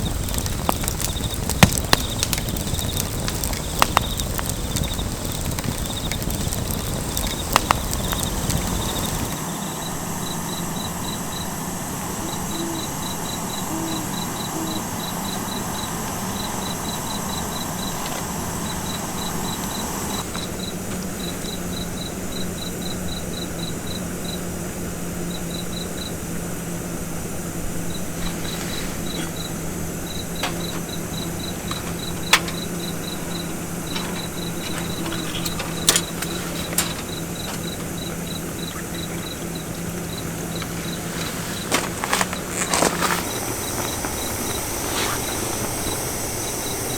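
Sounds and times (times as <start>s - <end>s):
crickets chirping: 0.0s - 46.9s
steady low hum: 0.0s - 46.9s.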